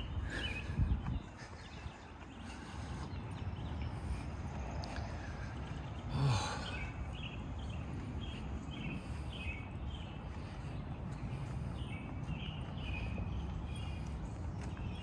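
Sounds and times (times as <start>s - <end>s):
footsteps on pavement: 0.0s - 15.0s
low outdoor rumble: 0.0s - 15.0s.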